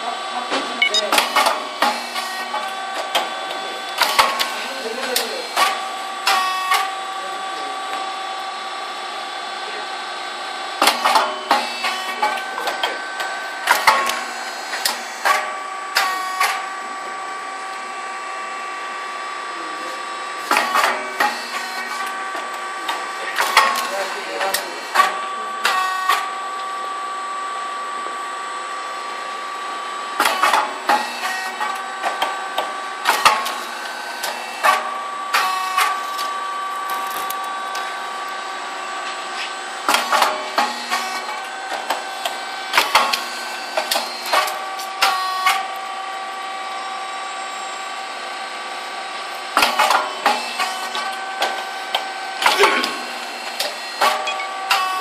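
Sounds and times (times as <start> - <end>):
machine whine: 0.2 - 55.0.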